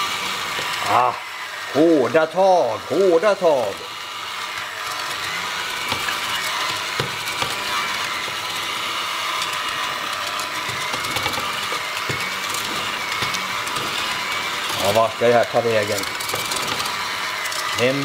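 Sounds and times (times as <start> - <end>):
electric mixer whining: 0.0 - 18.0.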